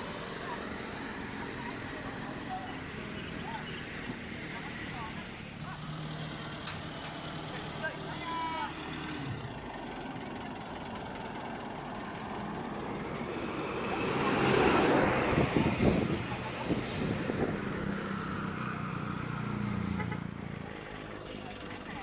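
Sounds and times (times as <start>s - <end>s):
diesel machinery engine rumble: 0.0s - 22.0s.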